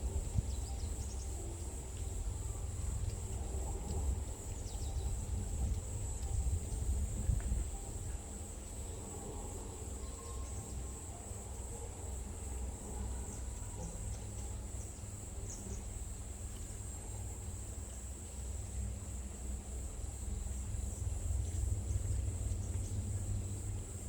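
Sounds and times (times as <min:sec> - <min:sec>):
insects trilling: 0:00.0 - 0:24.0
steady low rumble: 0:00.0 - 0:24.0.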